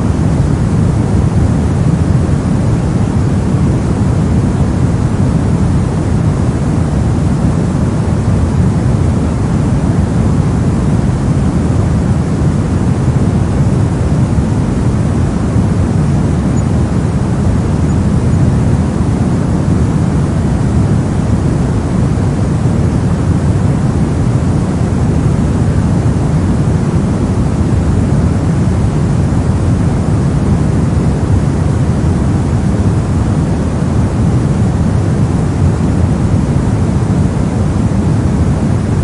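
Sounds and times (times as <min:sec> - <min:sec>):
low rumbling noise hiss: 0:00.0 - 0:39.0.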